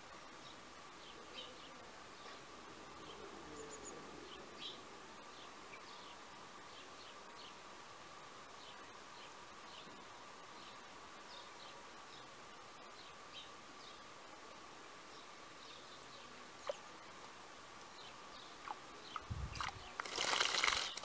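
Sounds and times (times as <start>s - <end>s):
steady thin hum: 0.0s - 21.0s.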